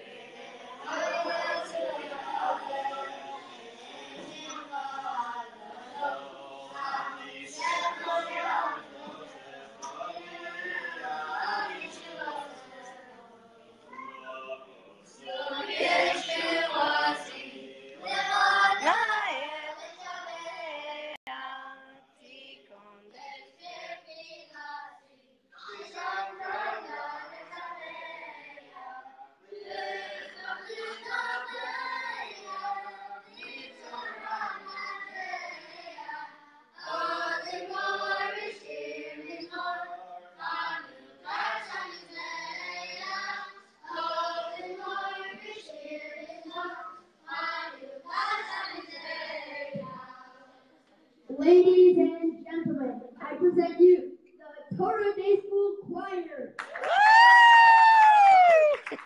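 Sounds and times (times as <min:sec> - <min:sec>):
boys' choir singing: 0:00.0 - 0:22.6, 0:23.2 - 0:50.7.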